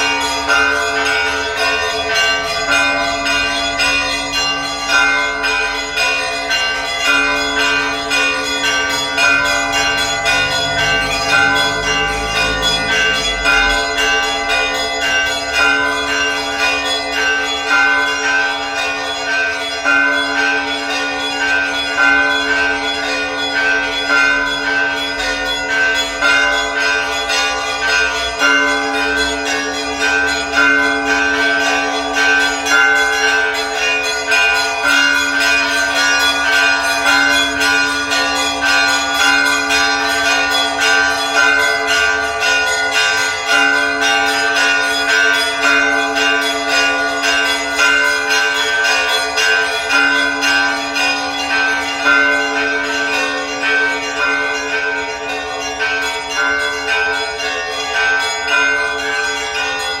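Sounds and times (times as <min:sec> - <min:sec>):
church bells pealing: 0:00.0 - 1:00.0.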